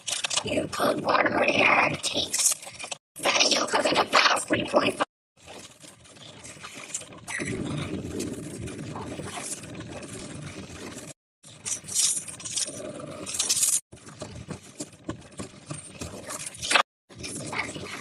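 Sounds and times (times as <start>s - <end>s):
objects scraping and rattling: 2.0s - 18.0s.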